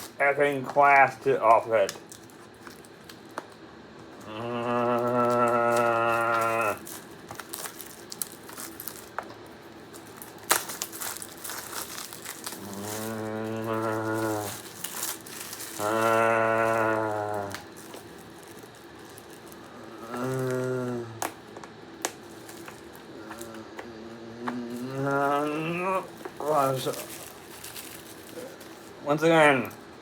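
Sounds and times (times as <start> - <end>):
plastic wrap crinkling and tearing: 0.0 - 23.8, 24.4 - 29.8.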